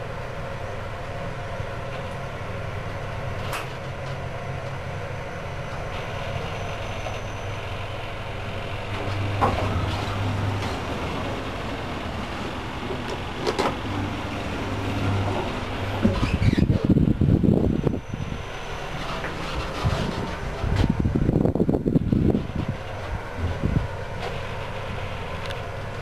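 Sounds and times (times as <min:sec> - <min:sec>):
elevator humming: 0:00.0 - 0:26.0
elevator doors sliding open: 0:03.2 - 0:26.0.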